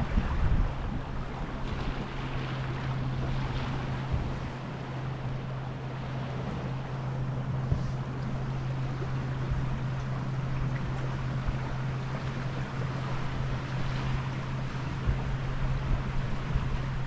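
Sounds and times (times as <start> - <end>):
steady low hum: 0.0 - 17.0
water washing past hull: 0.0 - 17.0
wind buffeting microphone: 0.0 - 17.0.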